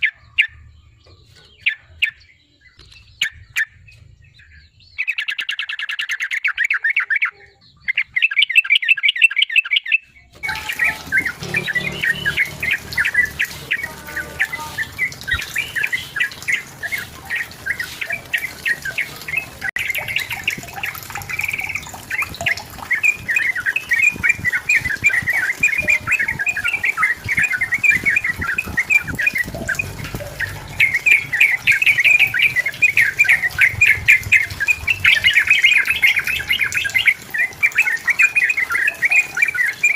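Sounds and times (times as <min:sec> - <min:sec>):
bird singing chattering phrases: 0:01.2 - 0:39.9.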